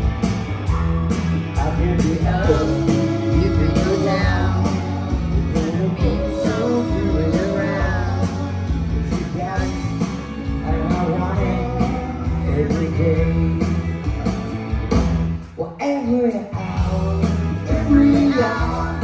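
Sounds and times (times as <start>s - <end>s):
steady drum beat: 0.0s - 15.5s, 16.7s - 19.0s
live rock band playing: 0.0s - 19.0s.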